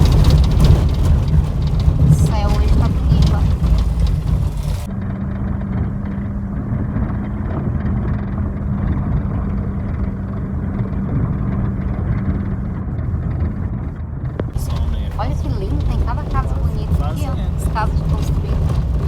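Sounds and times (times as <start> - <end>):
gravel road noise rumble: 0.0 - 19.0
vehicle engine hum: 0.0 - 19.0.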